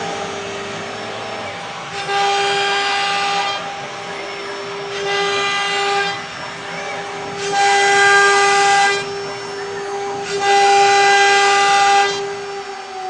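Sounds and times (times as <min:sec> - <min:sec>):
router spindle high whine: 0:00.0 - 0:13.0.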